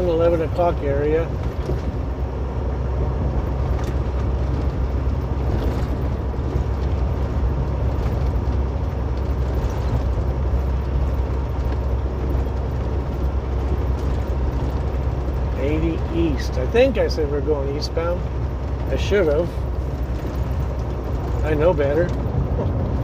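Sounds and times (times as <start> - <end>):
road and engine noise in car: 0.0 - 23.0.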